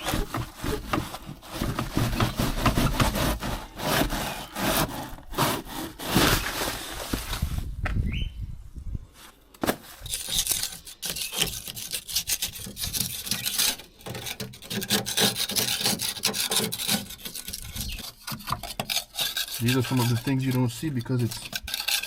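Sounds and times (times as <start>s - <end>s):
scraping and scrubbing dirt: 0.0s - 7.8s, 9.2s - 22.0s.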